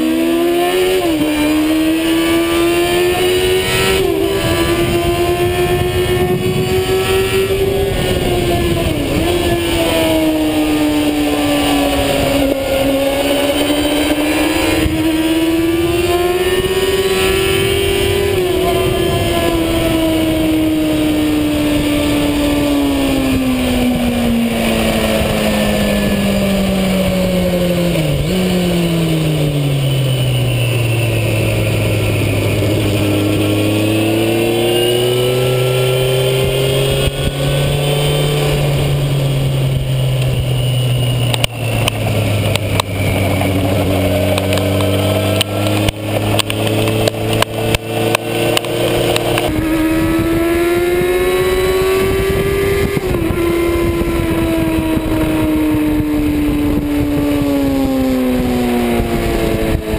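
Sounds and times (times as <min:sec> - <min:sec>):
motorcycle engine slowing down: 0:00.0 - 0:59.9.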